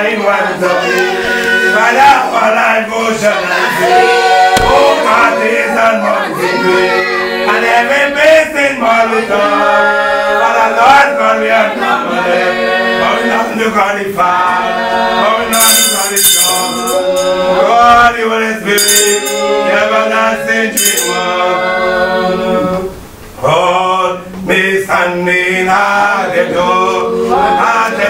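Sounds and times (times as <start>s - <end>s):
congregation singing a hymn: 0.0s - 28.0s.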